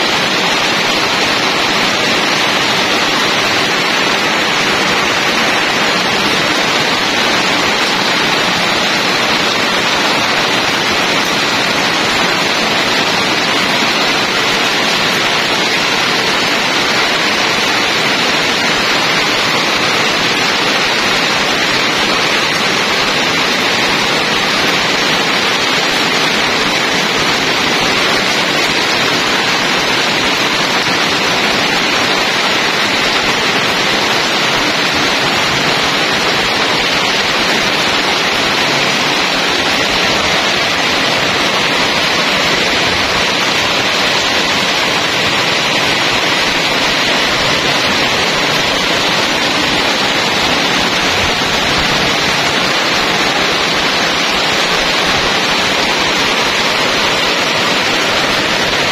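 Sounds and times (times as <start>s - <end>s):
heavy rain on metal roofs: 0.0s - 58.9s.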